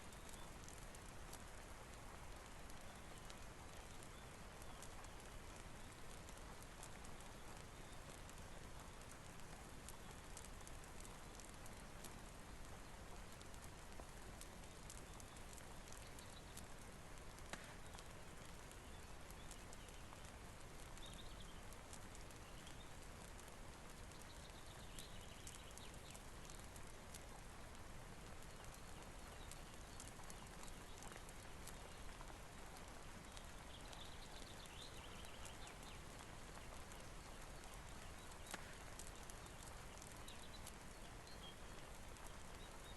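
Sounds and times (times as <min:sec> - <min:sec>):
faint steady rain: 0:00.0 - 0:42.9
wood fire crackling: 0:00.0 - 0:42.9.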